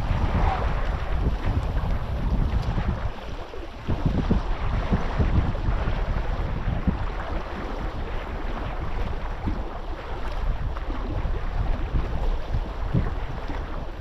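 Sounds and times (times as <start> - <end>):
sea water rushing: 0.0 - 14.0
wind buffeting microphone: 0.0 - 14.0.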